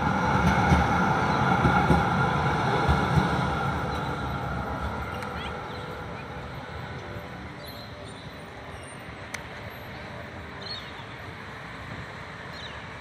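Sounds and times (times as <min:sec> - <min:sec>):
street traffic noise: 0:00.0 - 0:13.0
tram rolling: 0:00.0 - 0:13.0.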